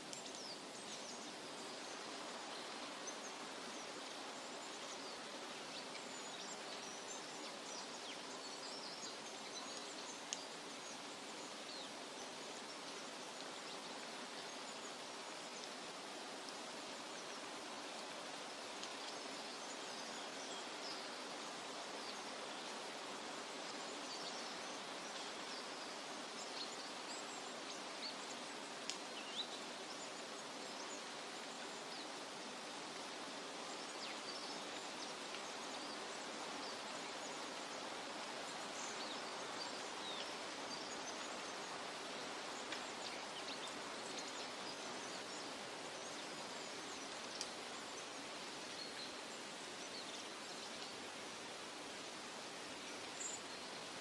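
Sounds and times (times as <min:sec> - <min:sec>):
steady rushing hiss: 0:00.0 - 0:54.0.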